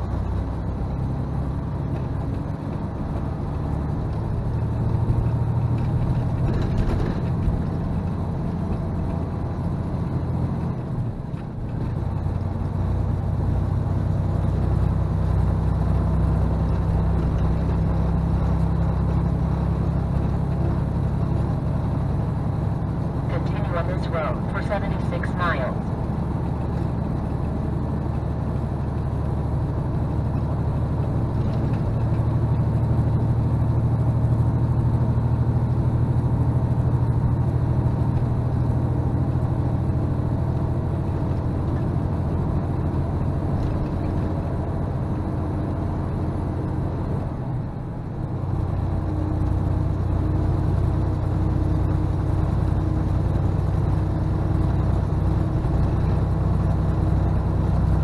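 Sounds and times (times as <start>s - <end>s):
diesel truck engine: 0.0s - 58.0s
road noise: 0.0s - 58.0s.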